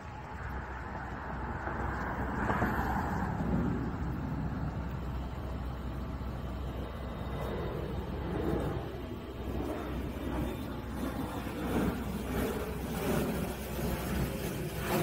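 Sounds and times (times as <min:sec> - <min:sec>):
jet climbing overhead: 0:00.0 - 0:15.0.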